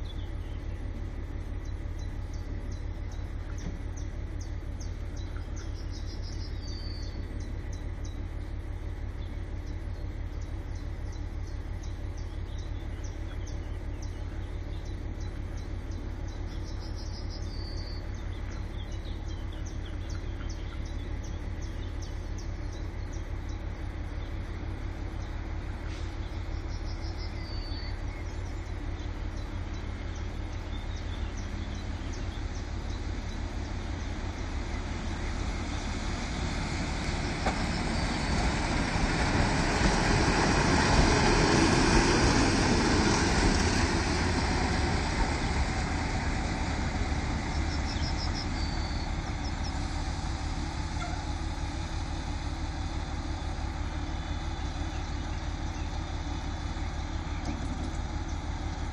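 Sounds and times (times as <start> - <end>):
low rumble: 0.0 - 58.9
railcar diesel engine: 0.0 - 58.9.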